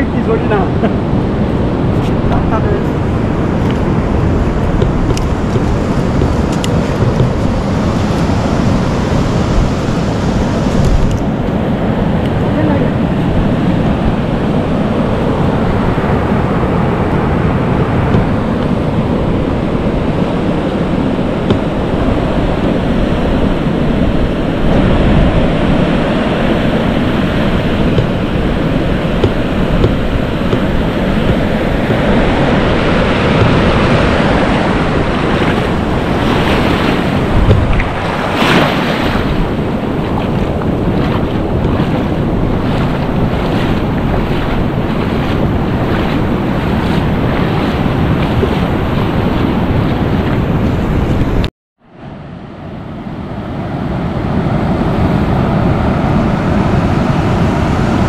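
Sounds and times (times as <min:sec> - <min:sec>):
wind buffeting microphone: 0:00.0 - 0:51.5
surf washing up beach: 0:00.0 - 0:58.0.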